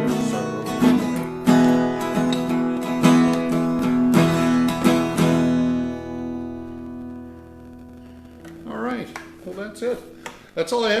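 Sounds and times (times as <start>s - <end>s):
acoustic guitar strumming: 0.0s - 10.5s.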